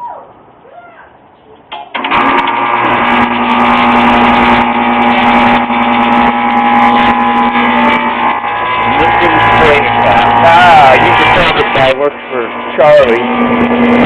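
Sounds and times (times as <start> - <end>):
heat pump unit humming: 0.0 - 14.0.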